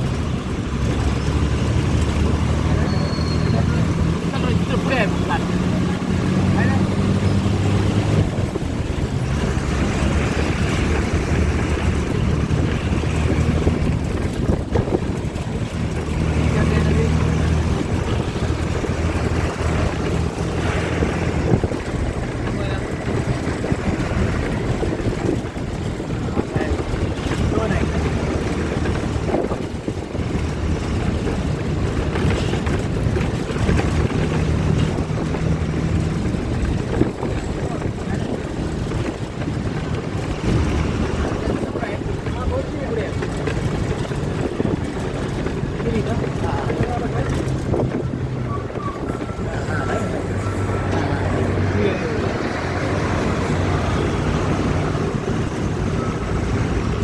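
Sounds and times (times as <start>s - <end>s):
heavy machine engine running: 0.0s - 57.0s
wind buffeting microphone: 0.0s - 57.0s.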